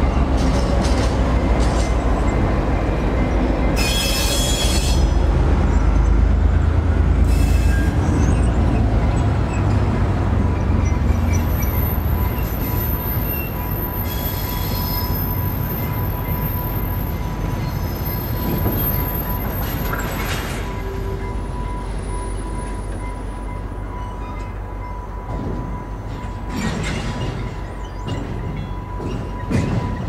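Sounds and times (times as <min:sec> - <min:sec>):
railway wheels squealing: 0:00.0 - 0:30.0.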